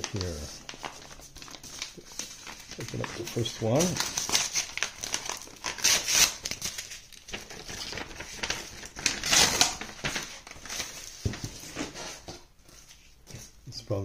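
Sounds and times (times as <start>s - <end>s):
paper envelope rustling: 0.0s - 13.6s.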